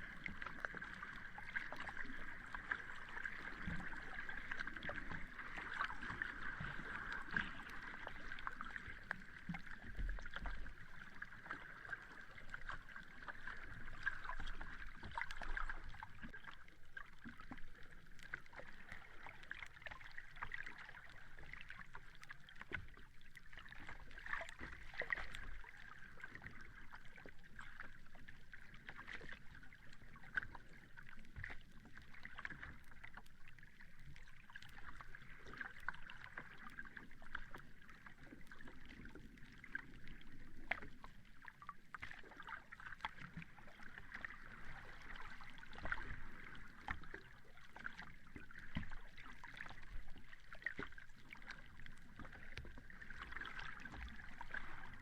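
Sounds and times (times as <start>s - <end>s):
sea water lapping at shore: 0.0s - 55.0s.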